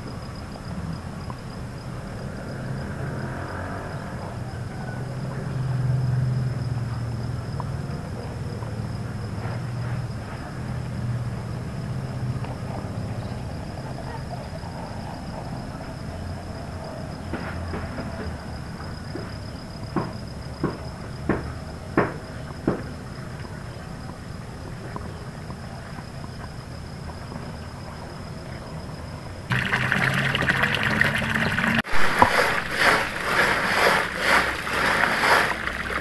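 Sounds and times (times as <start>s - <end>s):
high insect trill: 0.0s - 36.0s.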